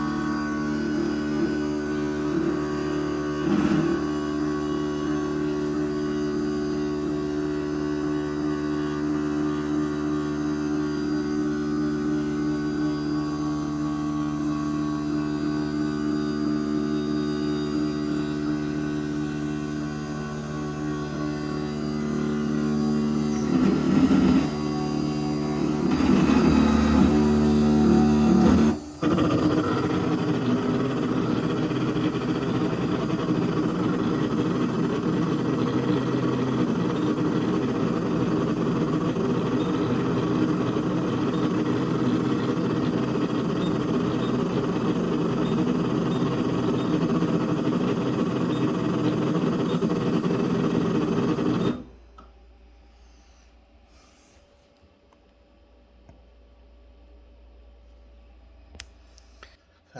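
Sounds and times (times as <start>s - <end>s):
stepper motors whining: 0.0s - 52.0s.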